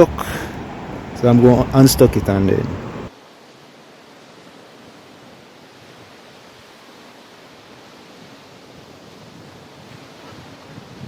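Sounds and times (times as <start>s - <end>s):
sea surf: 0.0s - 11.0s
wind: 0.0s - 11.0s.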